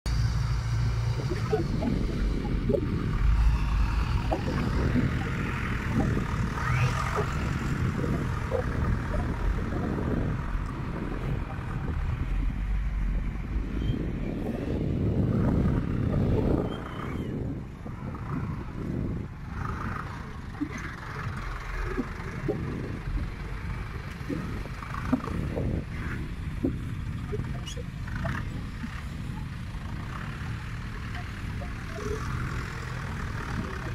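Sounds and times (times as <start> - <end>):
diesel truck engine rumbling: 0.1 - 33.9.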